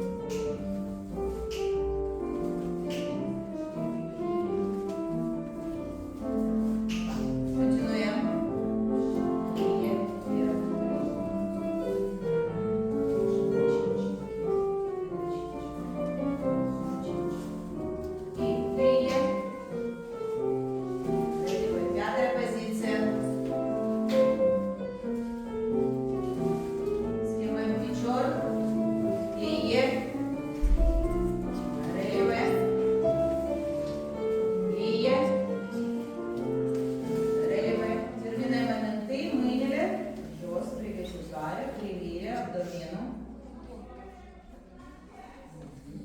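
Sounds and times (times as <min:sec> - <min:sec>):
classical piano music: 0:00.0 - 0:44.0.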